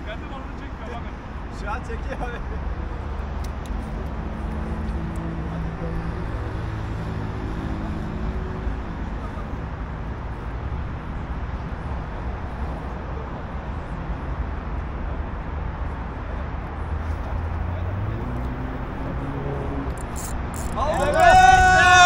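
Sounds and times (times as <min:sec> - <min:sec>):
road traffic noise: 0:00.0 - 0:22.0
low engine hum: 0:02.2 - 0:22.0.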